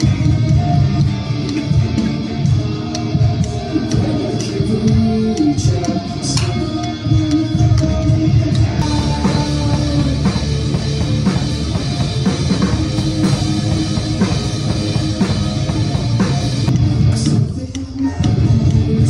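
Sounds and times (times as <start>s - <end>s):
rock band playing: 0.0s - 7.4s, 8.2s - 17.7s.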